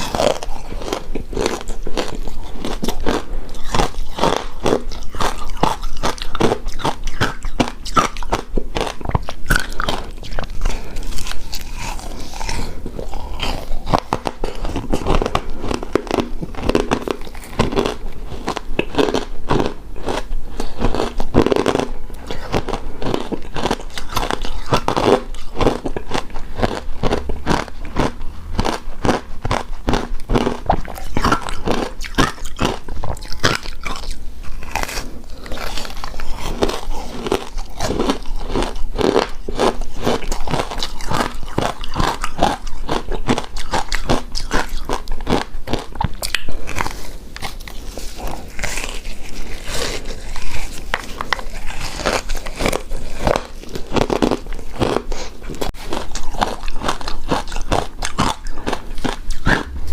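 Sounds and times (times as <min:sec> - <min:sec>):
chewing and crunching shaved ice: 0:00.0 - 0:59.9.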